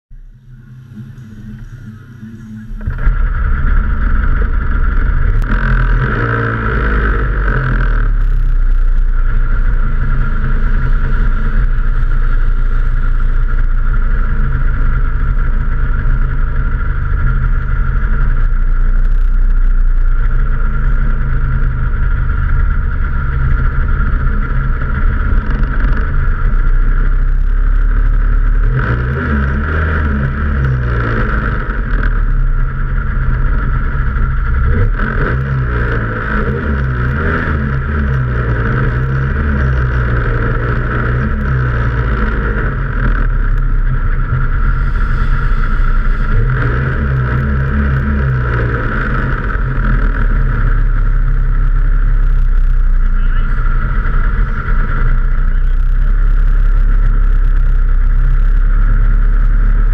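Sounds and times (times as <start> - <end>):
snowmobile engine idling: 0.2 - 59.9.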